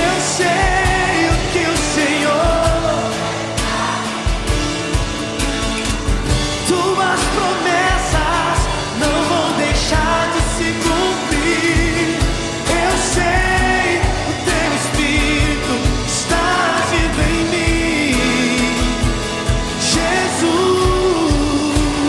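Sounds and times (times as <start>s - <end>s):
person singing worship song: 0.0s - 4.5s, 6.6s - 22.0s
band with steady drum beat: 0.0s - 22.0s.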